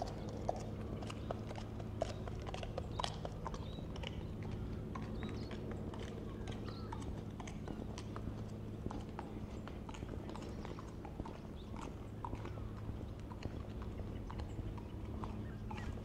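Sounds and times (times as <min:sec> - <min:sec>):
footsteps on trail: 0:00.0 - 0:16.0
steady low hum: 0:00.0 - 0:16.0.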